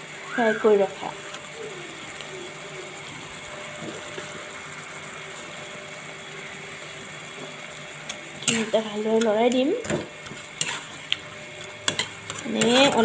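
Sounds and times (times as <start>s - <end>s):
food simmering in an iron pan: 0.0s - 13.0s.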